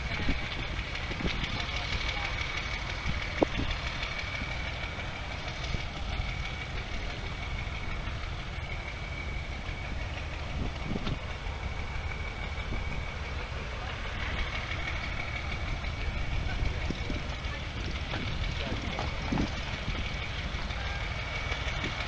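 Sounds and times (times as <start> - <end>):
tractor engines idling: 0.0 - 22.0.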